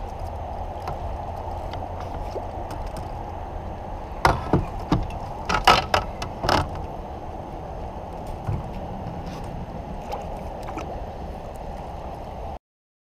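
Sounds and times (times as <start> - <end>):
river water flowing: 0.0 - 12.6.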